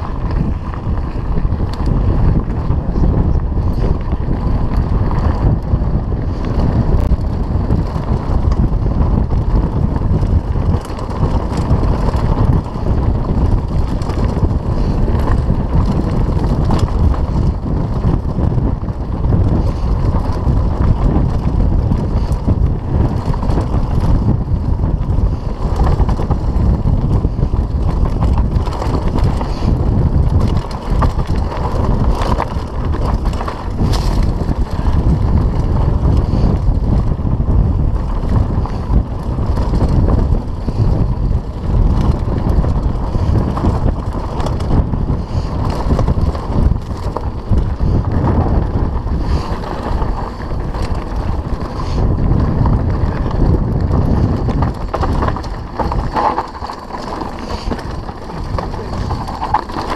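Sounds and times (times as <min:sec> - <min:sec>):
bike knocks and rattles: 0:00.0 - 0:59.9
mountain bike rumbling on dirt trail: 0:00.0 - 0:59.9
wind buffeting microphone: 0:00.0 - 0:59.9.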